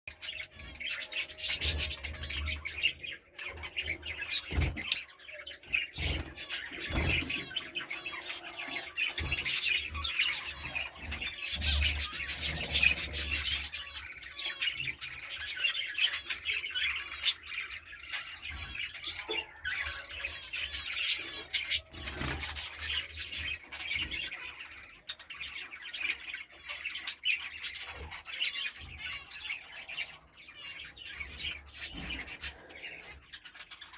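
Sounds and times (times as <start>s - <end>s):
lovebirds chirping and squawking: 0.1s - 33.9s.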